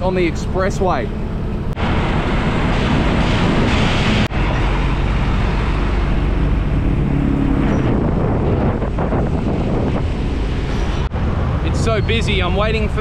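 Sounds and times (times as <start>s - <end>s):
wind rushing: 1.3s - 13.0s.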